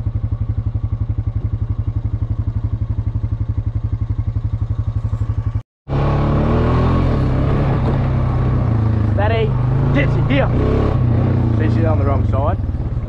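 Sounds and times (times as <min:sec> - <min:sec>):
quad bike engine puttering: 0:00.0 - 0:13.0.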